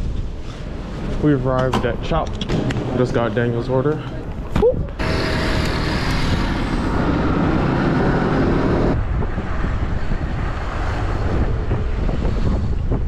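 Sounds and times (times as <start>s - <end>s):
road traffic noise: 0.0s - 13.0s
wind rumbling on microphone: 0.0s - 13.0s.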